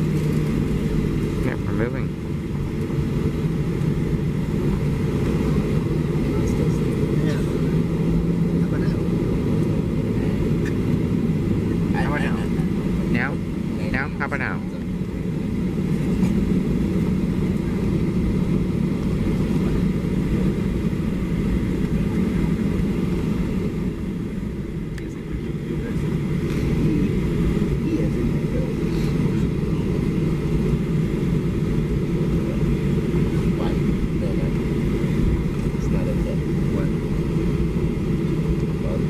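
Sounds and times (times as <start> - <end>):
jet engine rumble in cabin: 0.0 - 39.0.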